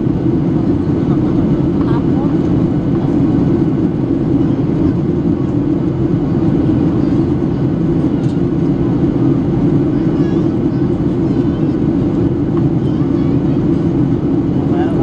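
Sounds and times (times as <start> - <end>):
airliner cabin engine hum: 0.0 - 15.0.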